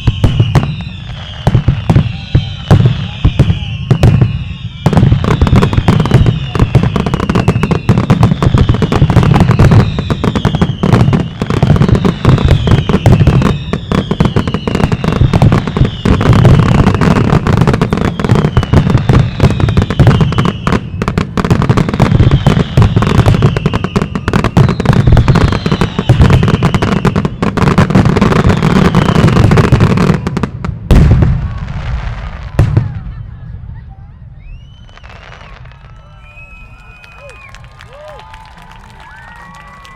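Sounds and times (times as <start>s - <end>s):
falling firework whistle: 0.0s - 33.4s, 34.2s - 39.9s
fireworks bangs and crackling: 0.0s - 39.9s.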